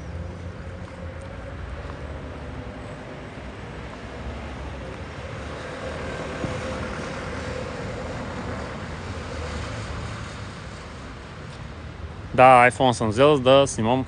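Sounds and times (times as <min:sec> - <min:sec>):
vehicle passing with low rumble: 0:00.0 - 0:14.0.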